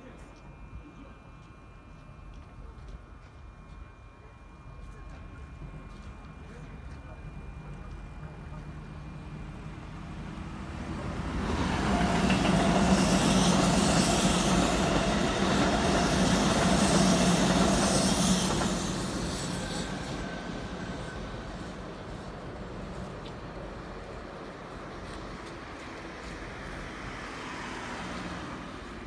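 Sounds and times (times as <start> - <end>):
electric train passing: 3.1 - 29.0.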